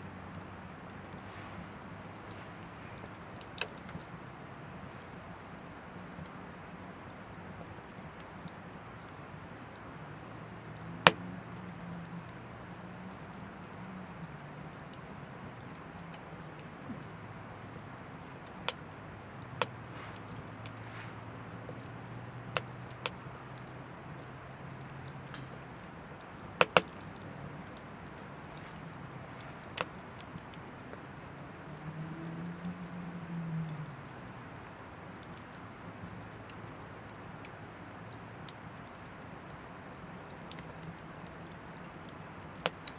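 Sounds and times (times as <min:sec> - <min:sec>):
firewood crackling and popping: 0:00.0 - 0:42.9
low fire rumble: 0:00.0 - 0:42.9.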